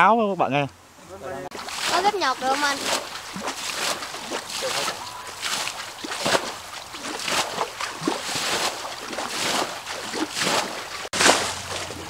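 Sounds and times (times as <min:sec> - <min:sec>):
water scooped and splashing: 0:01.5 - 0:12.0.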